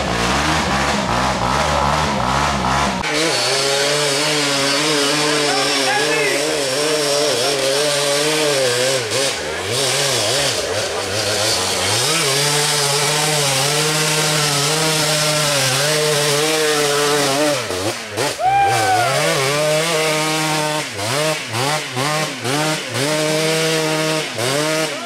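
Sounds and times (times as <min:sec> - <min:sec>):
atv engine revving: 0:00.0 - 0:25.0.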